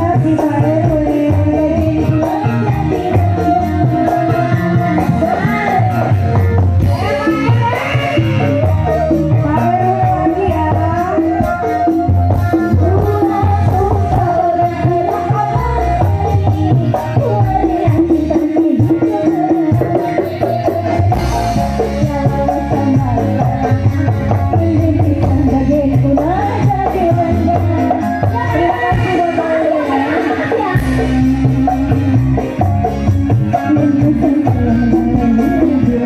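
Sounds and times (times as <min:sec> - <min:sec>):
live band playing: 0:00.0 - 0:36.0
person singing: 0:00.0 - 0:36.0
rapid rattling percussion: 0:00.0 - 0:36.0.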